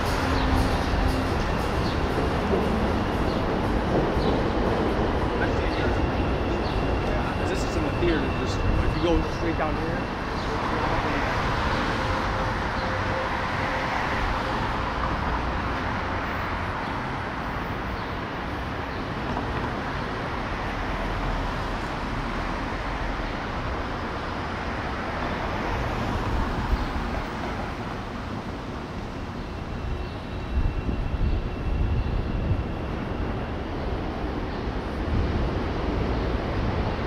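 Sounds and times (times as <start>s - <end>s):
city street traffic: 0.0s - 37.0s.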